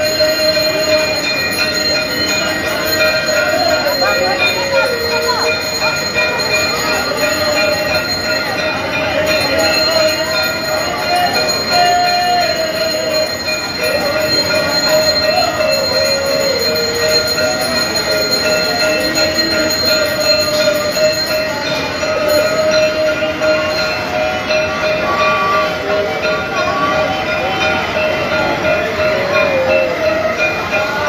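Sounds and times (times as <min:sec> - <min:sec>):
temple bells ringing: 0:00.0 - 0:31.0.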